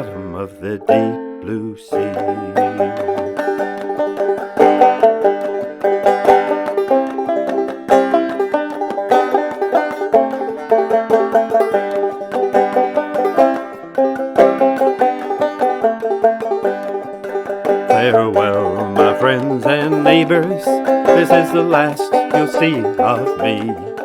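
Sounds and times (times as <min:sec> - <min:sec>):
solo banjo: 0:00.0 - 0:24.0.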